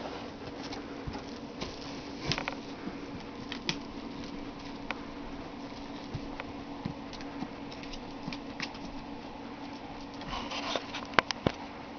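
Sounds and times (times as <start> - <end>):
steady room hum: 0.0 - 11.9.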